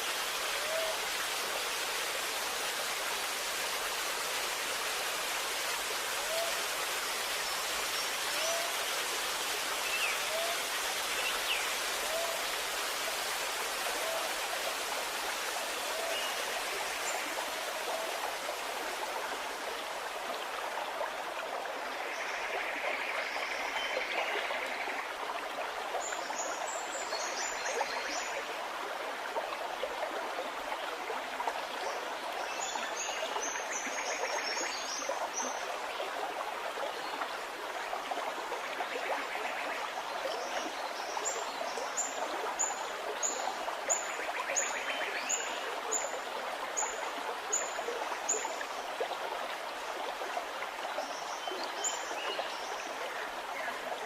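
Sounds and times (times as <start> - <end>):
stream gurgling: 0.0 - 54.0.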